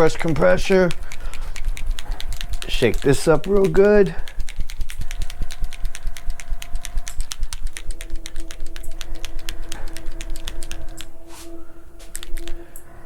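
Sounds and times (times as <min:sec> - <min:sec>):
paint bottle rattling shaken: 0:00.0 - 0:11.4, 0:12.0 - 0:12.7
steady hum: 0:00.0 - 0:13.0.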